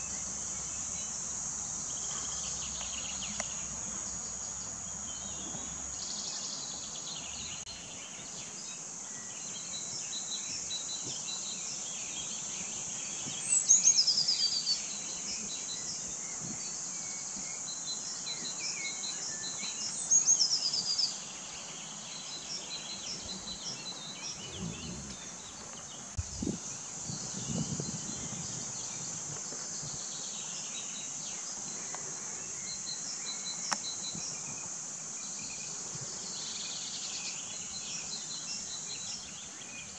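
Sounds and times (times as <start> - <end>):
insects stridulating: 0.0 - 39.9.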